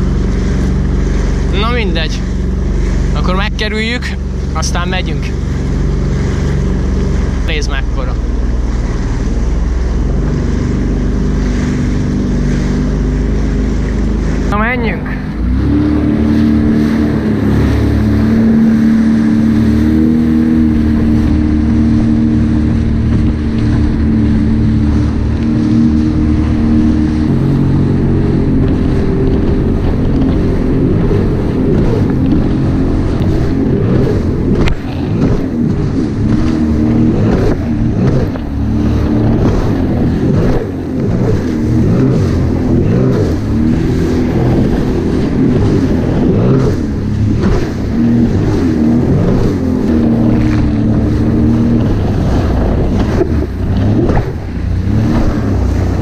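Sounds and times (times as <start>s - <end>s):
jet ski engine: 0.0s - 56.0s
water splashing: 0.0s - 56.0s
wind on microphone: 0.0s - 56.0s.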